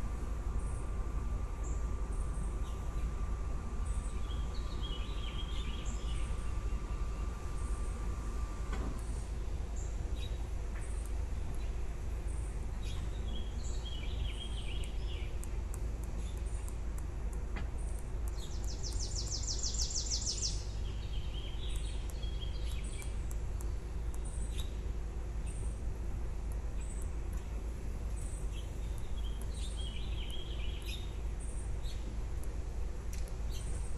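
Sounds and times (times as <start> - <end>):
small birds chirping: 0.0 - 33.9
steady low rumble: 0.0 - 33.9.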